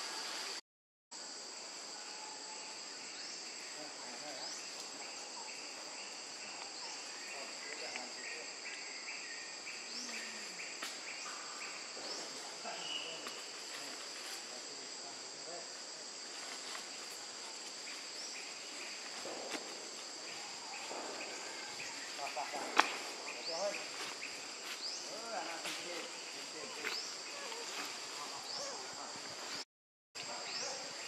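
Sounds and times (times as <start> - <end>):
insects droning: 1.2 - 29.6, 30.2 - 31.0
pulsing insect call: 1.2 - 29.6.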